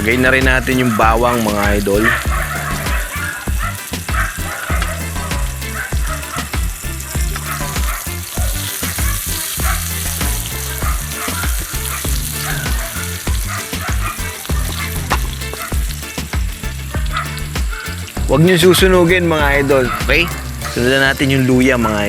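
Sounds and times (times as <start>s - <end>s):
onion sizzling in oil: 0.0s - 22.0s.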